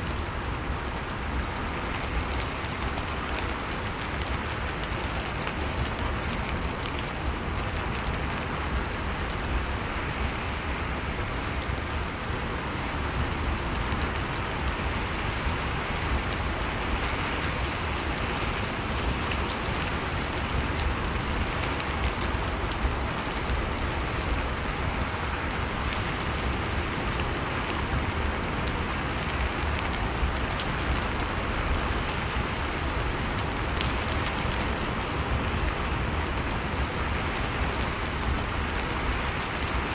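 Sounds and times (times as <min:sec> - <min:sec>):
rain falling: 0:00.0 - 0:39.9
raindrops pattering on a surface: 0:00.0 - 0:39.9.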